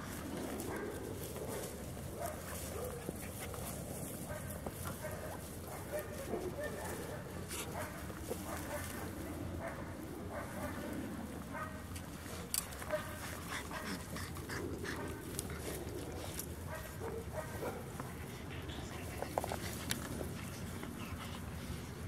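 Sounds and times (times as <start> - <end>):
puppies making little vocal sounds: 0.0 - 22.0.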